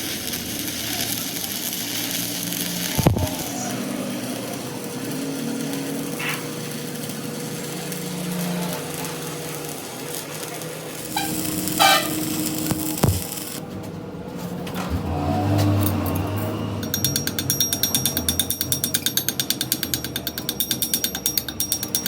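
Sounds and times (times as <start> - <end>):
workshop machinery humming: 0.0 - 22.0.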